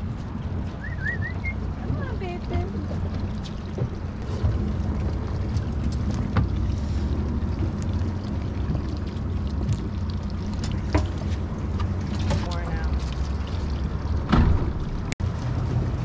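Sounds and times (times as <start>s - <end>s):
boat engine hum: 0.0s - 16.0s.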